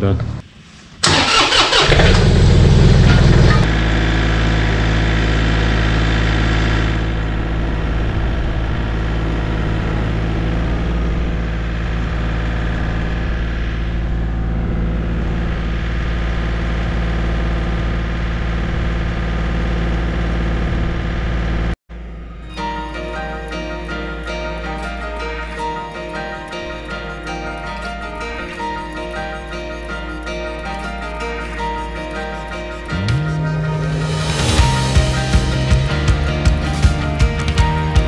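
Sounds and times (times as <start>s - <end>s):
tractor diesel engine running: 1.0s - 38.0s.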